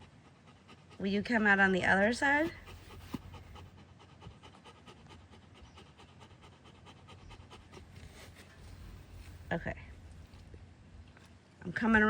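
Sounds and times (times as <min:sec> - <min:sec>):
dog panting: 0:00.0 - 0:10.5.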